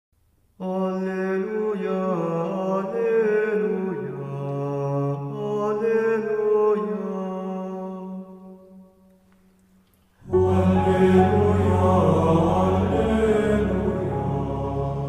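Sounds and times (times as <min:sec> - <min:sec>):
slow chant-like music: 0:00.5 - 0:15.0.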